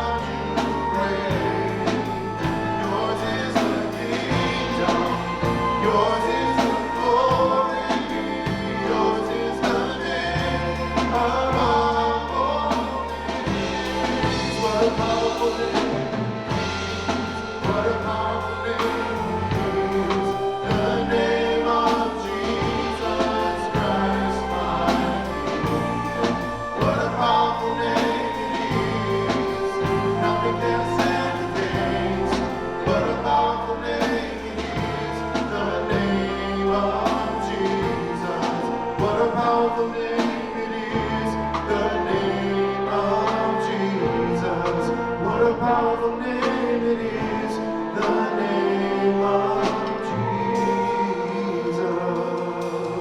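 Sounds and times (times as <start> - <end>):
band with bass and beat: 0.0 - 53.0
group of singers: 0.0 - 53.0.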